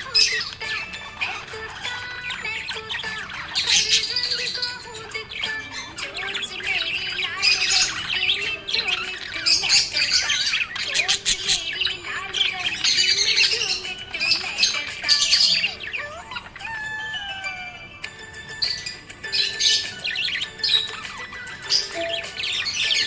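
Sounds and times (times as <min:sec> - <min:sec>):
budgerigars chirping and warbling: 0:00.0 - 0:23.0.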